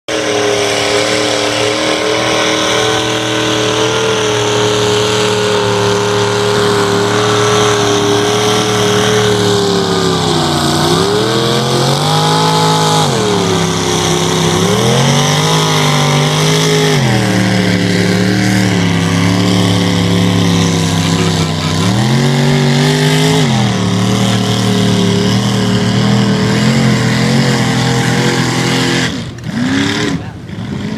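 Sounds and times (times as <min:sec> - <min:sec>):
truck engine at high revs: 0:00.0 - 0:30.9.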